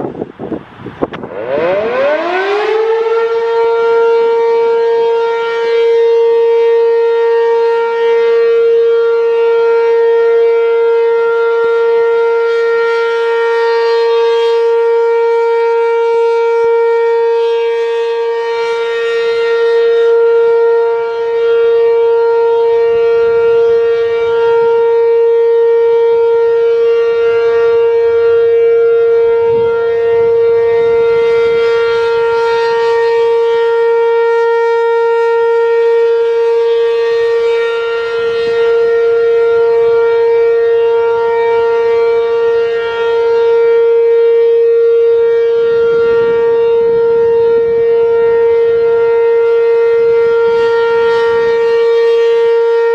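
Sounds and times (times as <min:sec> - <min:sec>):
warning siren steady tone: 0:00.0 - 0:52.9.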